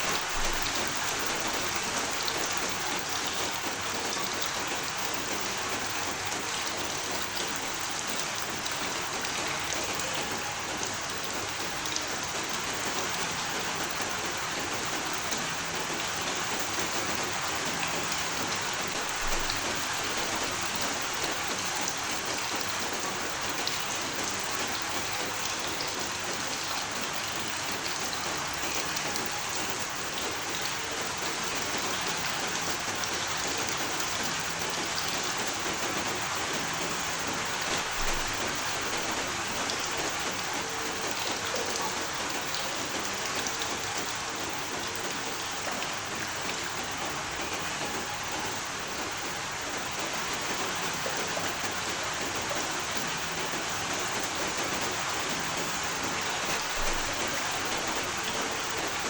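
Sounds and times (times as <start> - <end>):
raindrops ticking: 0.0 - 59.0
steady rain hiss: 0.0 - 59.0.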